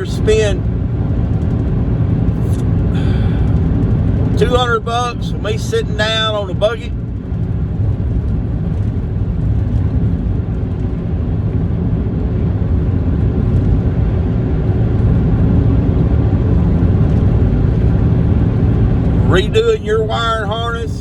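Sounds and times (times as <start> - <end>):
vehicle cabin road rumble: 0.0 - 21.0.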